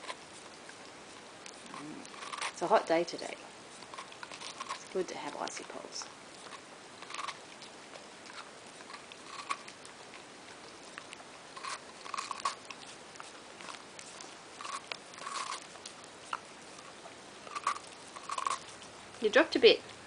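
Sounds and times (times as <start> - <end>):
dog chewing ice lolly: 0.0 - 20.0.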